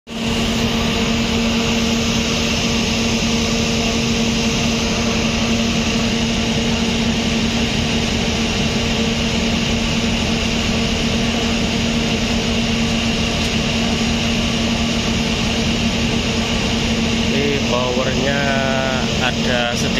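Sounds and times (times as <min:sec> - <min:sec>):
generator engine running: 0:00.0 - 0:19.9.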